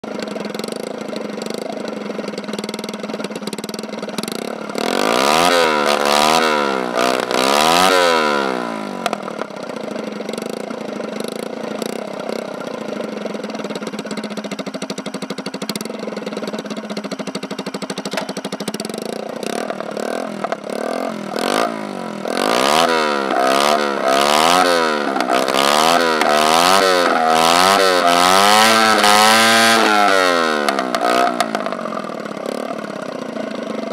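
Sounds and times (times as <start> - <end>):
scooter engine revving: 0.0 - 33.9.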